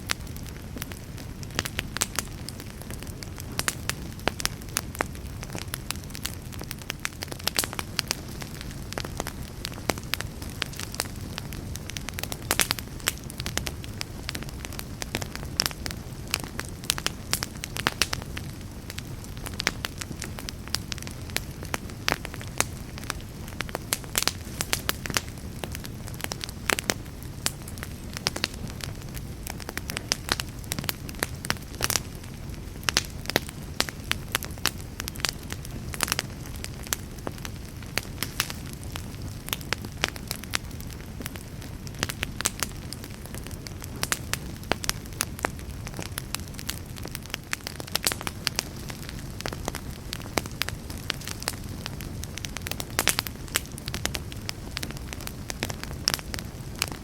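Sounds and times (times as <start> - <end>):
fire crackling: 0.0 - 57.0
low rumble of flames: 0.0 - 57.0.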